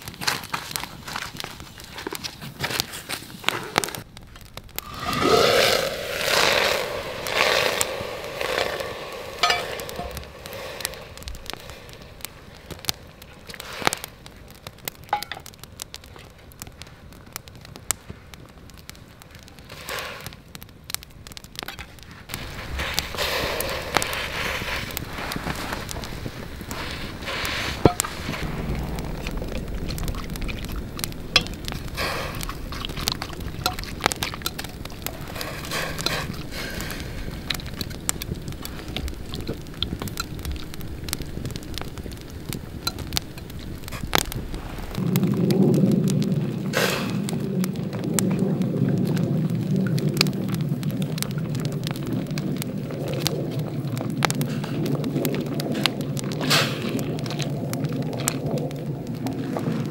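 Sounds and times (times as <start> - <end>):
campfire crackling and popping: 0.0 - 59.9
onions sizzling in a pot: 0.0 - 59.9.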